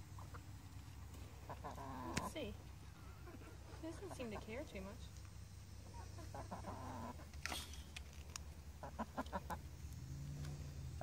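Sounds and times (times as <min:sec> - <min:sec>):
chickens clucking: 0:00.0 - 0:07.9, 0:08.6 - 0:11.0.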